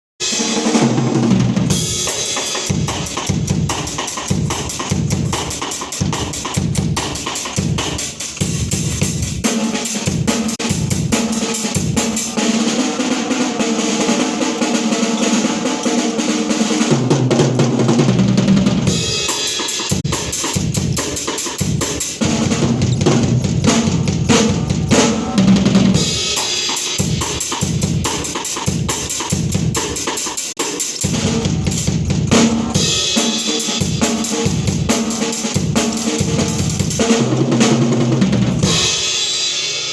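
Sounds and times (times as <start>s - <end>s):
snare drum rolls: 0.2s - 39.3s
bass drum beats: 0.8s - 30.1s, 31.0s - 39.1s.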